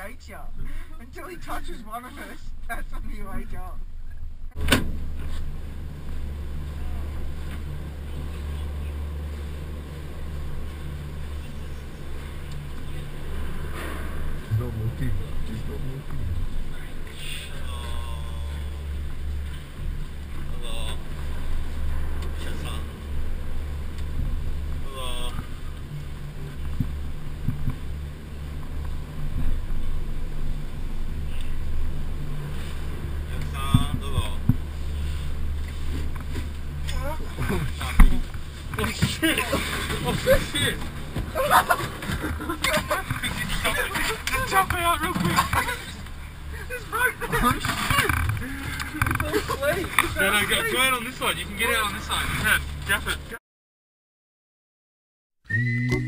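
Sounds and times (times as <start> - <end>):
gondola cabin rumble: 0.0 - 53.4
hum: 0.0 - 53.4, 55.5 - 56.0.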